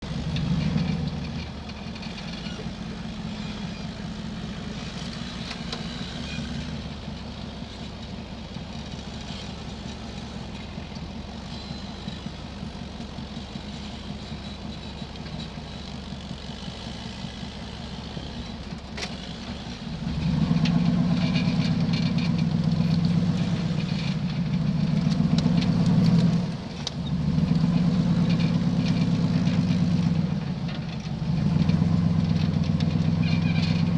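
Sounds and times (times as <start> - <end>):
buggy engine revving: 0.0 - 33.9.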